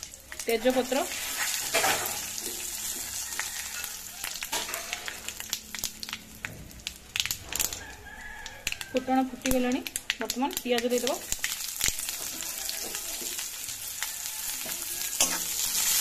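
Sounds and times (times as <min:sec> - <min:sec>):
seeds crackling and popping: 0:00.0 - 0:16.0
spices sizzling in hot oil: 0:00.0 - 0:16.0.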